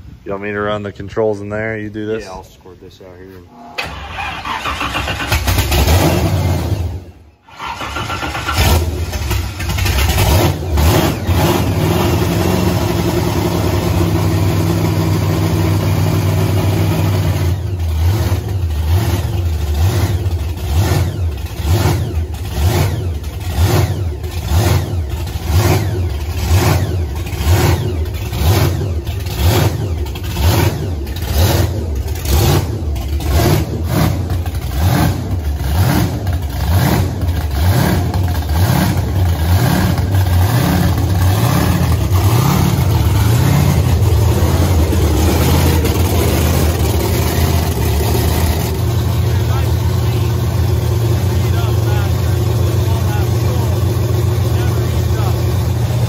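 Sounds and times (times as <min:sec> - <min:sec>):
car engine starting and idling: 0:00.0 - 0:56.0.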